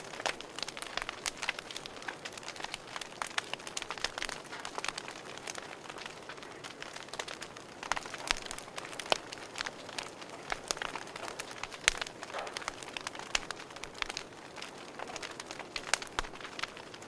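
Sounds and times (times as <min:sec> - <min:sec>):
soft fire hiss: 0:00.0 - 0:17.0
wood fire crackling: 0:00.0 - 0:17.0.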